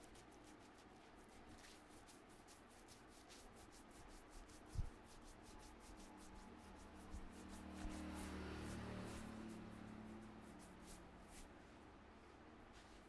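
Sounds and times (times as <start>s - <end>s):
hands rubbing skin and hair: 0.0s - 11.5s.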